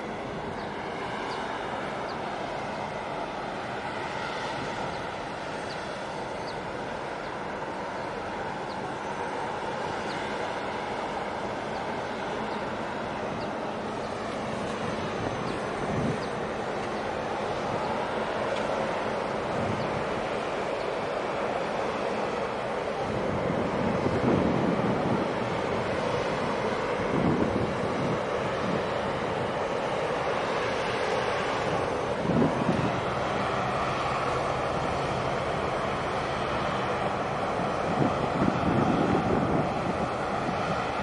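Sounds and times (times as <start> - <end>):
boat engine drone: 0.0 - 41.0
rushing water: 0.0 - 41.0.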